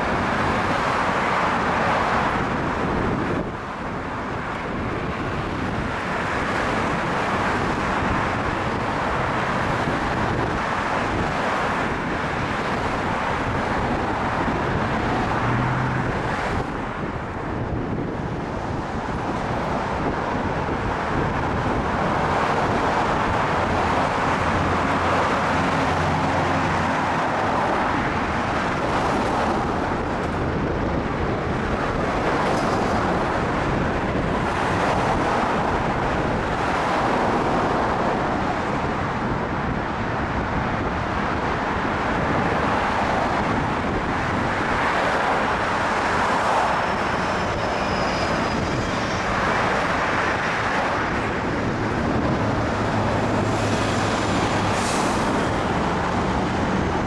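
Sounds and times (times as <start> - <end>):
cars driving past: 0.0 - 57.0.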